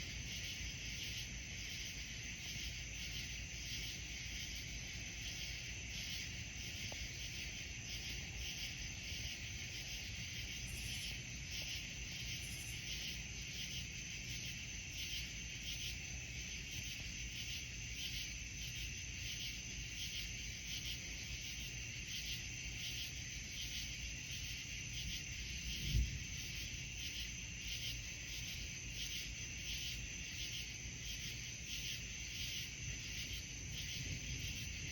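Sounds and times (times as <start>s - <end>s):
crickets trilling: 0.0s - 34.9s.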